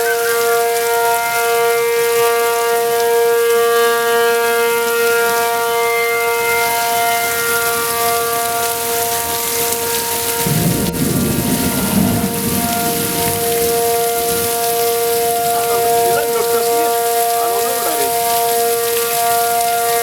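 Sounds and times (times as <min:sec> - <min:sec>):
tornado warning siren: 0:00.0 - 0:20.0.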